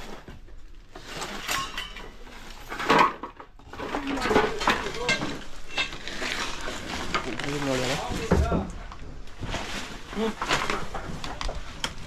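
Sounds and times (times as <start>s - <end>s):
rubble clattering and scraping: 0.0s - 12.0s.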